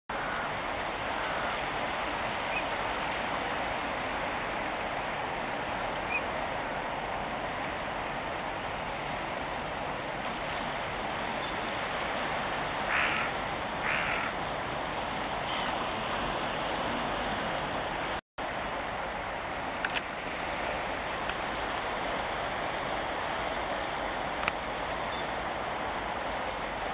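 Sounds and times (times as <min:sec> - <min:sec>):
water rushing: 0:00.1 - 0:26.9.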